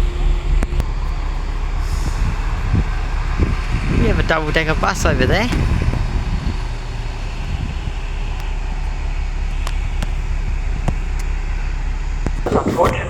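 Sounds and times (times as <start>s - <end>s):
road vehicle engine rumble: 0.0s - 12.7s.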